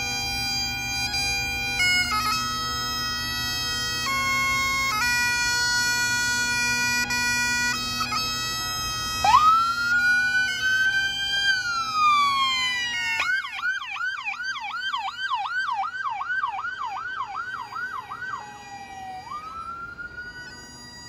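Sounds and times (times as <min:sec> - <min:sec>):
police siren wailing and yelping: 0:00.0 - 0:21.0.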